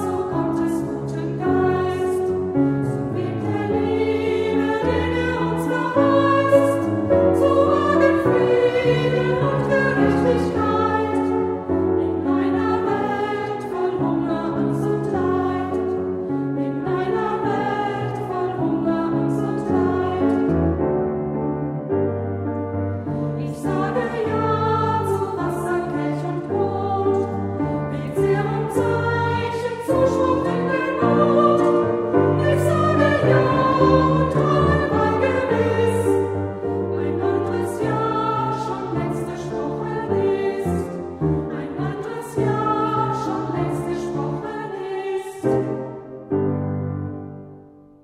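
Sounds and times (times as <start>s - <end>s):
women's choir singing a hymn: 0.0s - 21.4s, 22.8s - 46.5s.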